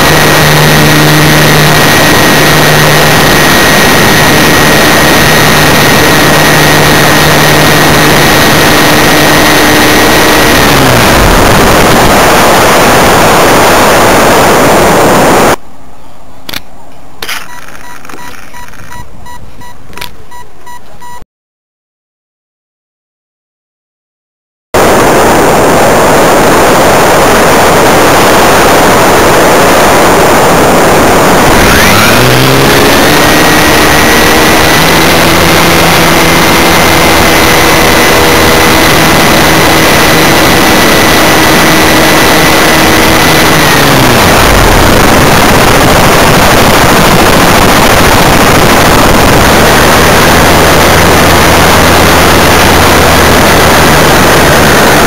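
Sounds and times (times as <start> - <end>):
small aircraft engine: 0.0 - 15.6, 24.8 - 55.0
wind rush: 0.0 - 15.6, 24.8 - 55.0.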